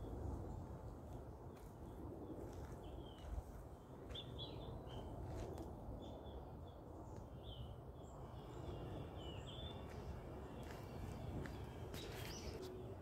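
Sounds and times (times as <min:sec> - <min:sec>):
steady low rumble: 0:00.0 - 0:13.0
small birds chirping: 0:01.9 - 0:13.0.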